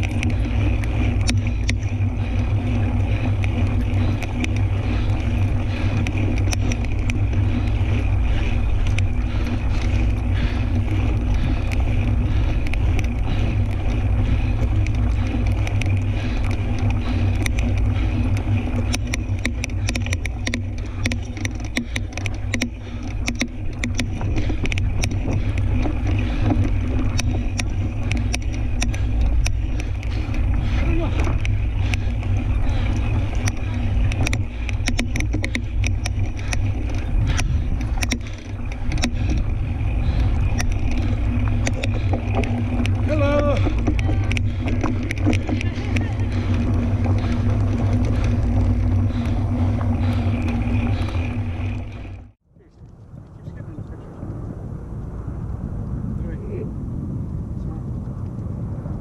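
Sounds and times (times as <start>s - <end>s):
bicycle rattling clicks: 0.0s - 55.5s
wind rumble on microphone: 0.0s - 59.0s.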